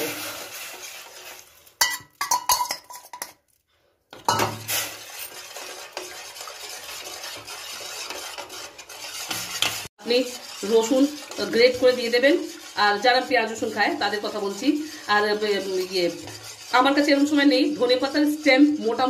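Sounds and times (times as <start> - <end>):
metal spoon stirring in a pan: 0.0 - 19.0.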